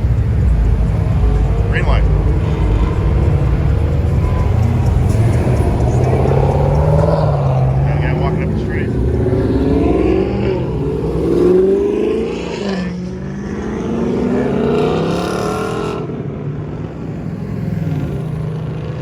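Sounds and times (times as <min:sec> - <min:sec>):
car engines accelerating past: 0:00.0 - 0:19.0.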